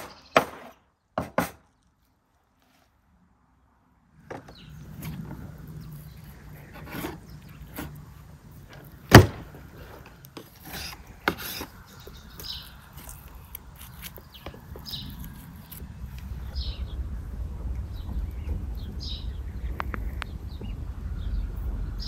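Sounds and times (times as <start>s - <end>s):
birds chirping: 0.0s - 2.0s, 4.2s - 22.0s.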